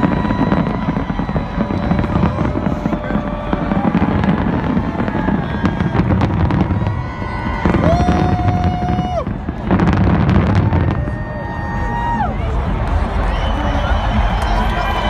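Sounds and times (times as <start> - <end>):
fireworks low rumble: 0.0 - 15.0
fireworks pops and crackles: 0.0 - 15.0.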